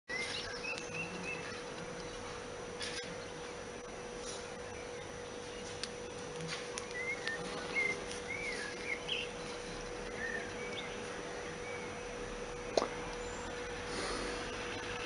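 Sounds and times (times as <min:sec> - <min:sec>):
small birds chirping: 0:00.1 - 0:15.0
steady low hum: 0:00.1 - 0:15.0.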